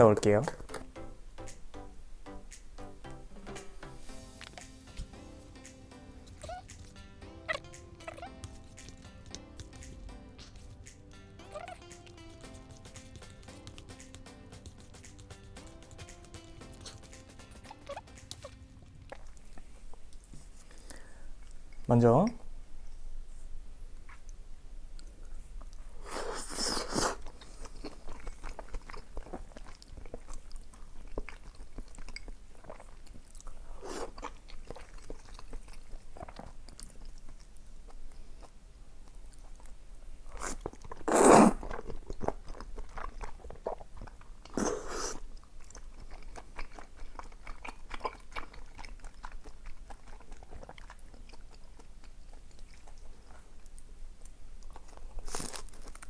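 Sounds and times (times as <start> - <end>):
person chewing: 0.4 - 21.9, 25.0 - 56.0.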